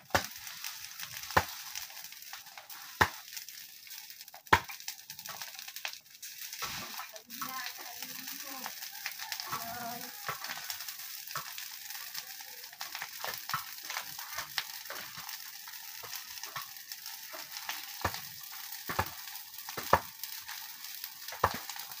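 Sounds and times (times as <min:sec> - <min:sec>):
brush pile burning with crackling: 0:00.0 - 0:22.0.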